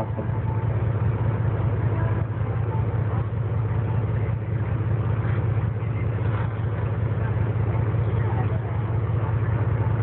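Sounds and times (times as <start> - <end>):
boat engine humming: 0.0 - 10.0
sea noise: 0.0 - 10.0
wind: 0.0 - 10.0.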